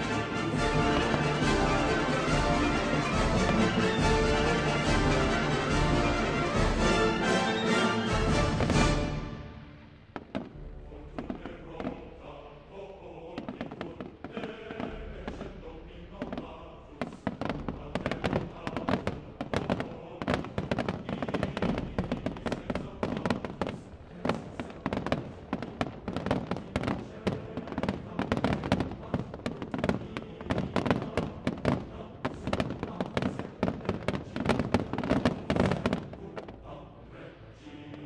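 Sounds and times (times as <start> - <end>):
fireworks bangs and crackling: 0.0 - 12.0, 13.4 - 36.6.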